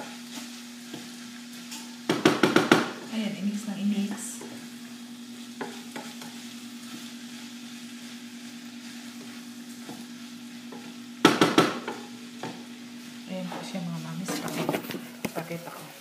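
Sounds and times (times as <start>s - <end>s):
rice sizzling in butter: 0.0s - 16.0s.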